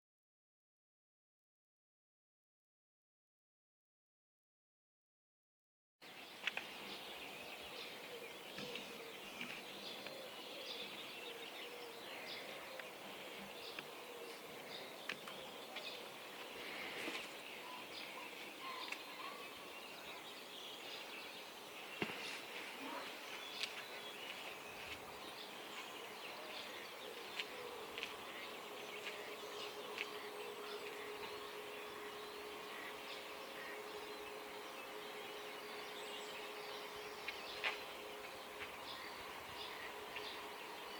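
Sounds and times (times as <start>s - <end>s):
birds chirping and calling: 6.0s - 40.9s.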